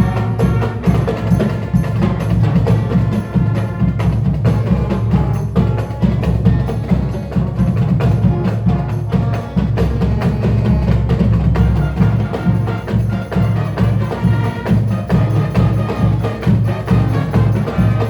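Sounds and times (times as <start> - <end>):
marching band music: 0.0 - 18.0
rapid drum strokes: 0.0 - 18.0.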